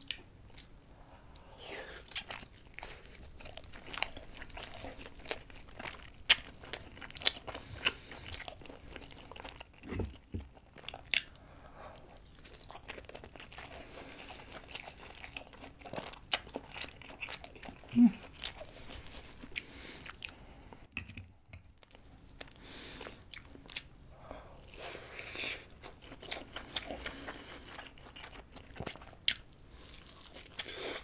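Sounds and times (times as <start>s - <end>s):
chewing dumpling: 0.0s - 20.8s, 24.5s - 31.0s.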